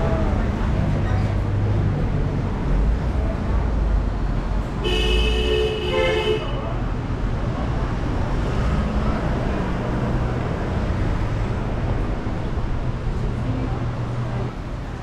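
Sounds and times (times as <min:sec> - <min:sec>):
vehicle engines running: 0:00.0 - 0:05.8, 0:06.4 - 0:15.0
road noise: 0:00.0 - 0:15.0.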